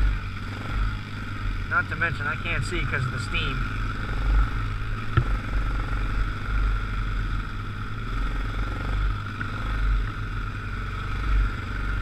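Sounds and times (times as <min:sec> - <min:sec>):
atv engine rumbling: 0:00.0 - 0:12.0
engine whine: 0:00.0 - 0:12.0.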